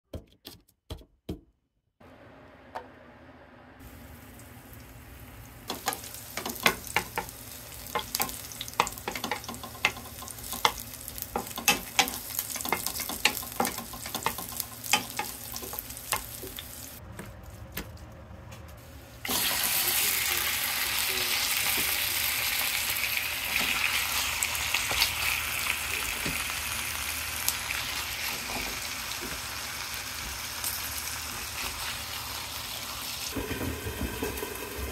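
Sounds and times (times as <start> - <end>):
garlic frying in oil: 3.8 - 17.0, 19.2 - 34.9
loud steady sizzle of chicken: 3.8 - 17.0, 19.2 - 34.9.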